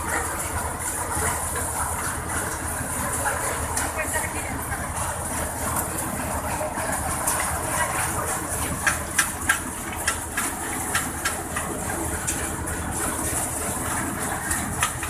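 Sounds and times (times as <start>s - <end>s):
thresher machine running: 0.0s - 15.0s.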